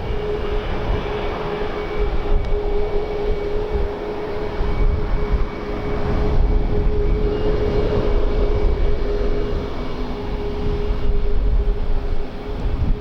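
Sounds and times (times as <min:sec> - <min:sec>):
aircraft engines humming: 0:00.0 - 0:13.0
wind buffeting microphone: 0:00.0 - 0:13.0.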